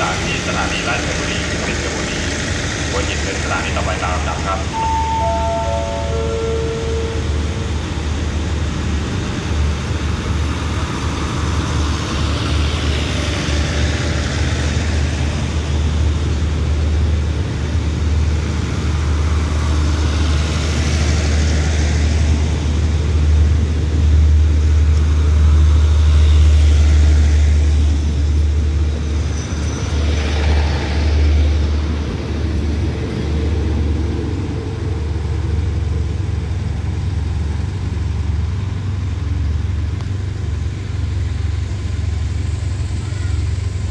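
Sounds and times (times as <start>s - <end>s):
diesel engine drone: 0.0s - 43.9s
wheel and rail noise: 0.0s - 43.9s.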